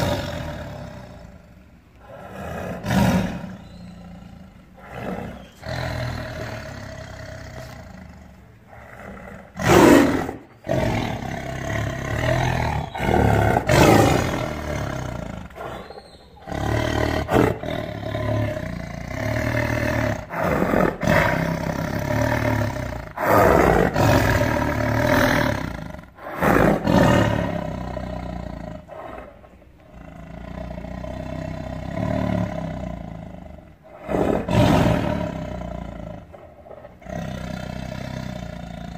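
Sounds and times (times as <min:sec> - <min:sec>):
tiger snarling and growling: 0:00.0 - 0:38.9.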